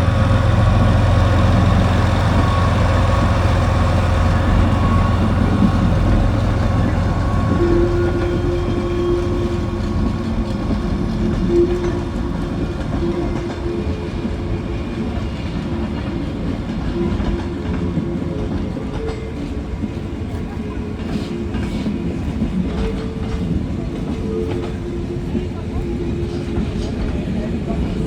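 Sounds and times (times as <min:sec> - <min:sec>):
train rumbling along track: 0:00.0 - 0:28.0.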